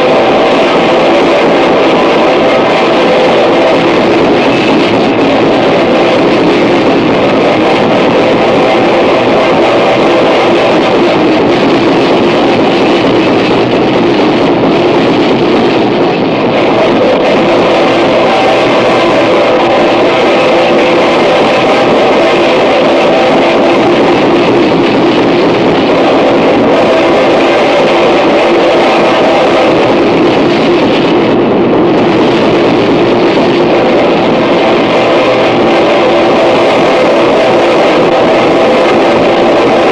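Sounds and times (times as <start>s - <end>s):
distorted noise music: 0.0s - 39.9s
faint steady hum: 0.0s - 39.9s.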